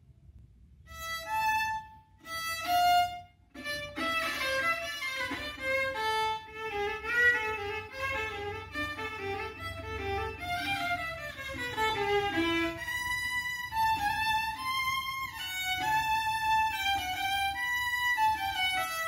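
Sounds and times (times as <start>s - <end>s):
muted violin melody: 0.9s - 19.0s.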